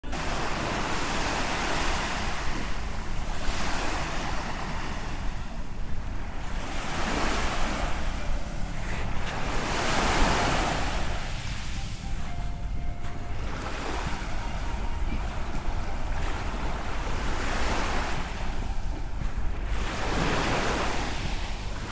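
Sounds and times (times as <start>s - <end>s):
sea waves washing onto beach: 0.0s - 21.9s
wind on microphone: 0.0s - 21.9s.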